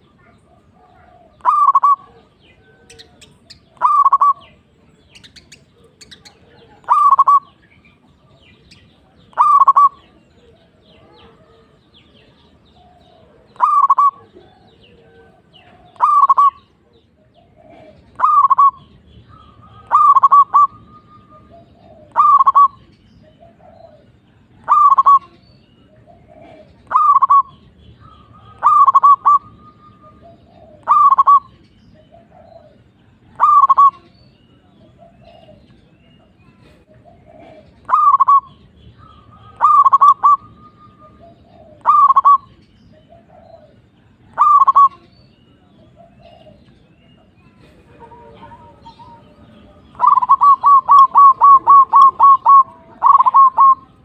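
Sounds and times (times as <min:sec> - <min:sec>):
dove cooing: 0:00.0 - 0:07.6, 0:09.0 - 0:11.8, 0:12.7 - 0:34.1, 0:34.7 - 0:35.7, 0:36.6 - 0:46.7, 0:47.6 - 0:54.0.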